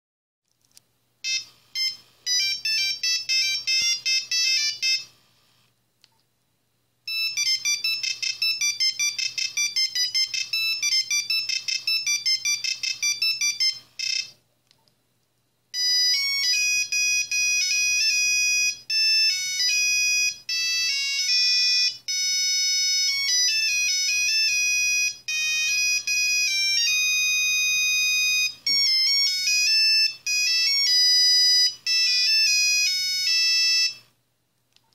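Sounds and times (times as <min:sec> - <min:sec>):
mobile phone ringtone beeps: 0:01.2 - 0:05.1, 0:07.1 - 0:14.4, 0:15.8 - 0:34.1
ringtone with held notes: 0:01.2 - 0:05.2, 0:07.1 - 0:14.4, 0:15.8 - 0:34.1.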